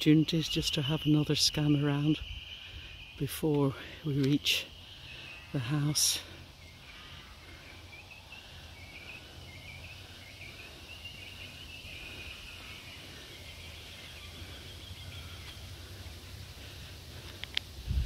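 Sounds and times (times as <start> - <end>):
high wavering wildlife chirping: 0.0 - 18.0.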